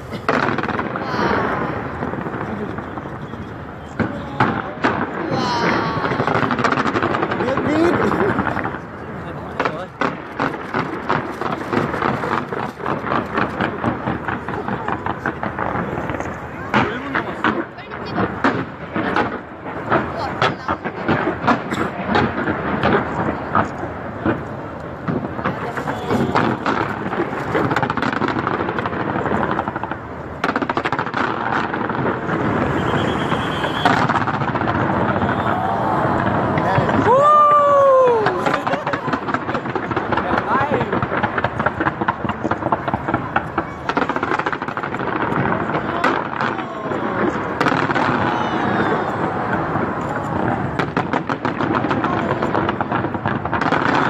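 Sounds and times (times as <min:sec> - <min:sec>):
crowd hubbub: 0:00.0 - 0:54.0
fireworks crackling: 0:00.0 - 0:54.0.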